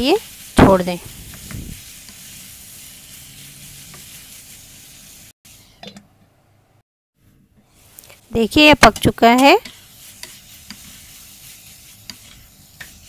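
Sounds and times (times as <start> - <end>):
food sizzling in wok: 0.0 - 5.6, 7.8 - 13.0
spatula stirring: 0.0 - 5.8, 7.6 - 13.0.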